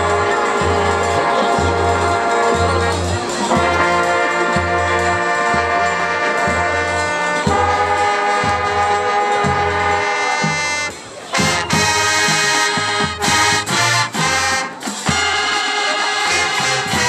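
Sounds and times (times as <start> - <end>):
brass playing held chords: 0.0 - 17.0.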